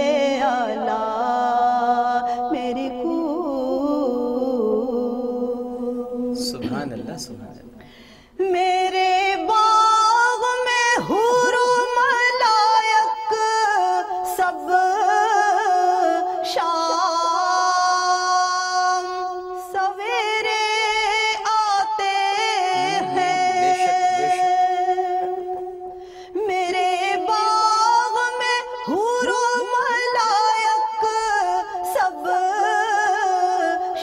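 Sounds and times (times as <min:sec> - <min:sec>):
woman singing devotional song: 0:00.0 - 0:06.6, 0:08.0 - 0:34.0.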